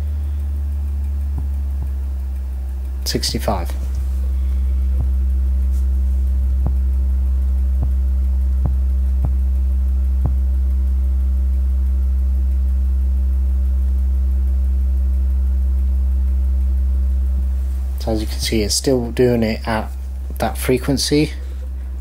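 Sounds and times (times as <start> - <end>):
subwoofer low test tone: 0.0 - 22.0.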